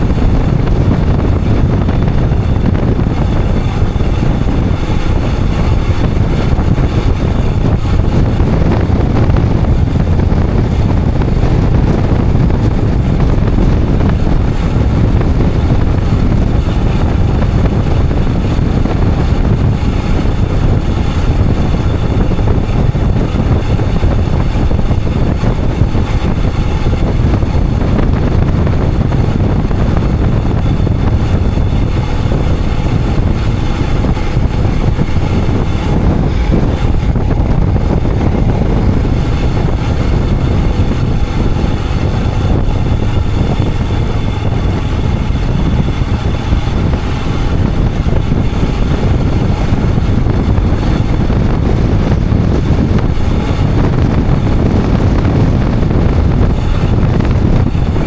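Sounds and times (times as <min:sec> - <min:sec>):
motorcycle engine running: 0:00.0 - 0:58.0
wind on microphone: 0:00.0 - 0:58.0.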